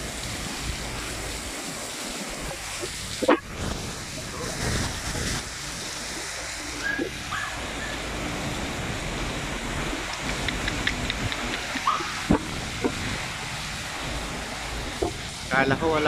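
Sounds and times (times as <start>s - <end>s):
storm wind and heavy rain: 0.0s - 16.0s.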